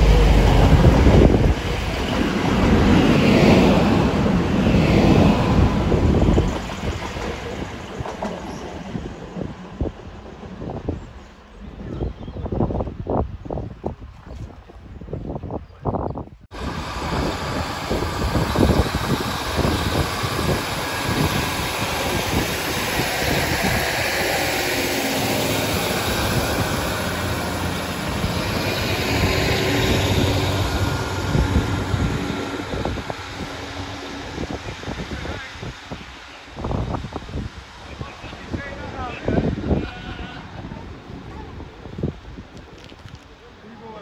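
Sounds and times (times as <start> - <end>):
train passing: 0.0 - 12.0, 16.5 - 44.0.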